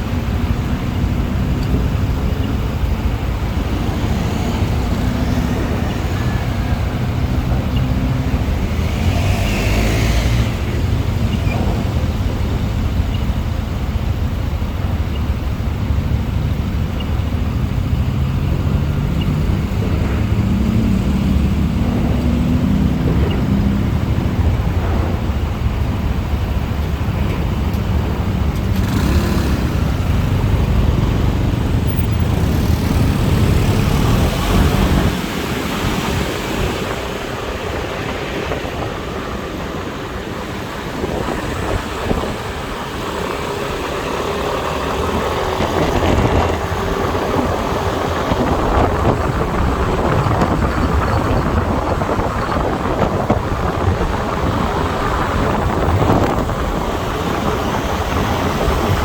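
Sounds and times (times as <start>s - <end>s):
motorbike engine: 0.0s - 59.0s
road noise: 0.0s - 59.0s
wind buffeting microphone: 0.0s - 59.0s.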